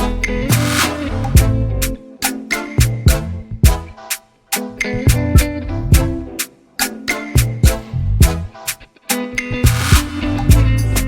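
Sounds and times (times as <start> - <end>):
music with steady drum beat: 0.0 - 8.8, 9.6 - 11.0.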